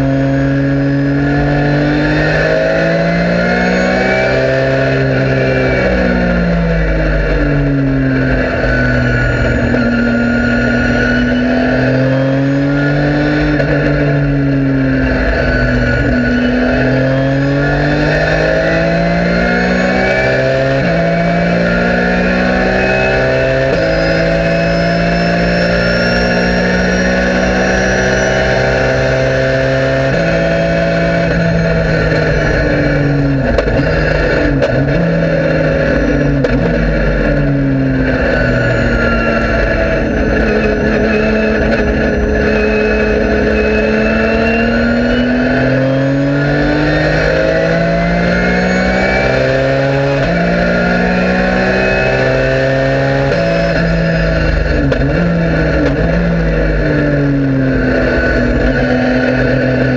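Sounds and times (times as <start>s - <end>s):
race car engine at high revs: 0.0s - 59.9s.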